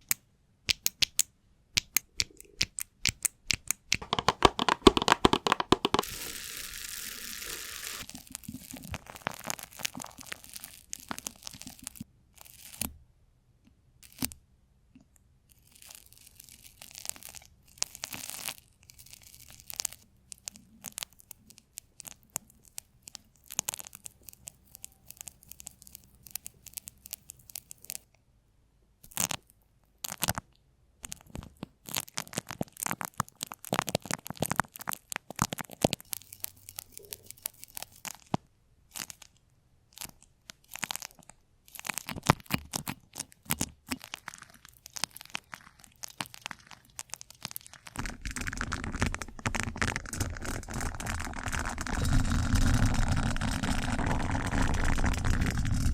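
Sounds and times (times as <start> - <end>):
crisp crackling and clicking: 0.0 - 12.9, 15.5 - 28.1, 29.0 - 55.9.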